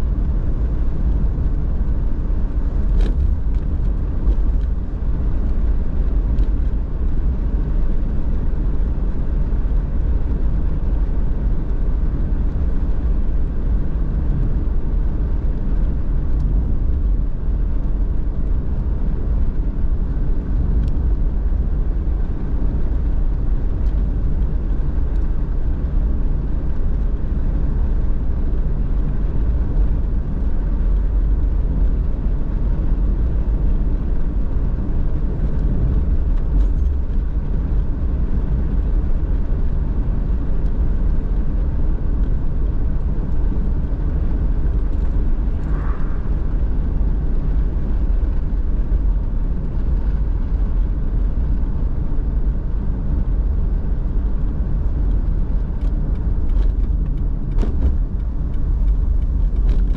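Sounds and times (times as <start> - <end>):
car engine and tyre road noise: 0.0 - 59.9.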